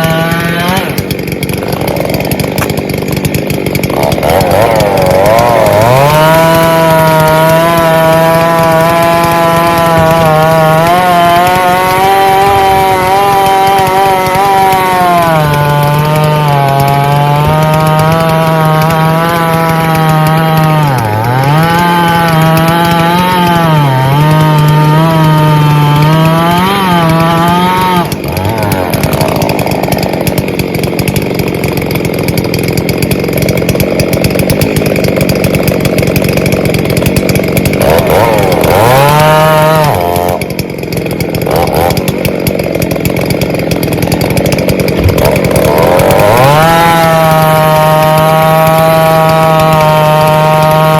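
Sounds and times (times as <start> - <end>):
chain tearing through wood: 0.0 - 50.9
chainsaw engine revving: 0.0 - 50.9.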